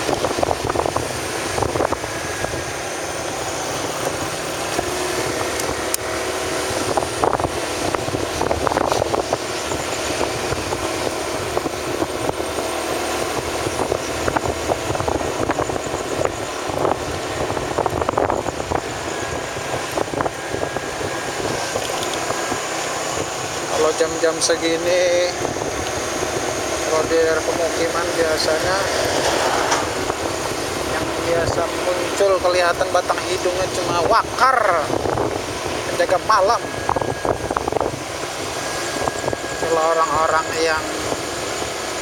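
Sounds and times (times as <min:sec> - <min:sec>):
road noise: 0:00.0 - 0:42.0
vehicle engine running: 0:00.0 - 0:42.0.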